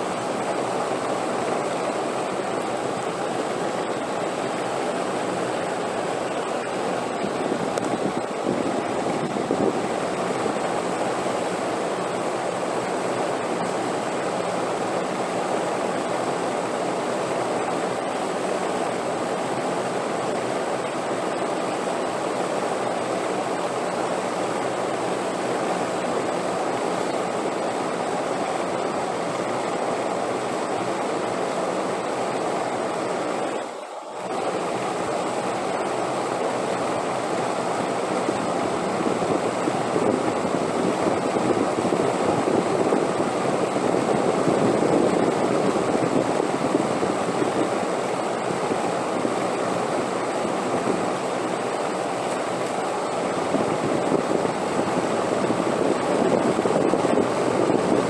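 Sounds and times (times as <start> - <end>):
steady wind: 0.0 - 58.0.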